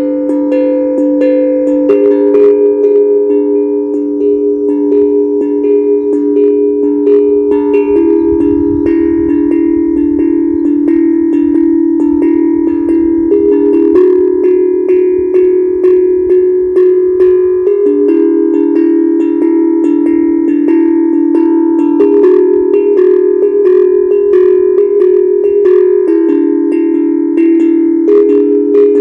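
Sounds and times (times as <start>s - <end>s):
steel tongue drum melody: 0.0s - 29.0s.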